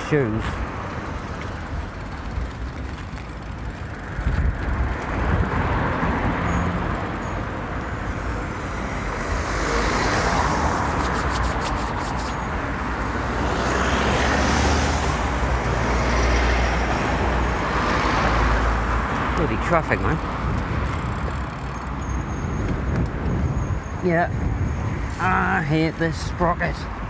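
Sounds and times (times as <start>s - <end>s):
wind rumbling on microphone: 0.0s - 25.6s
road traffic passing: 0.0s - 27.0s.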